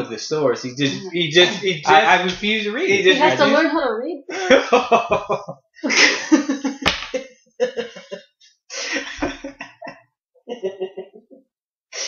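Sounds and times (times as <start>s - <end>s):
men laughing: 0.8s - 3.7s, 4.3s - 11.4s.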